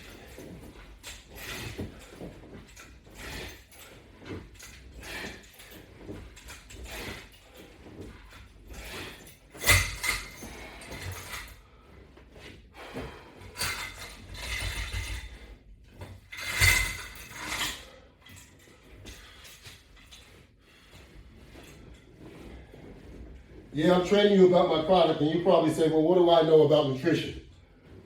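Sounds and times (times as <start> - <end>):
exercise straps creaking and rattling: 0.0 - 28.0.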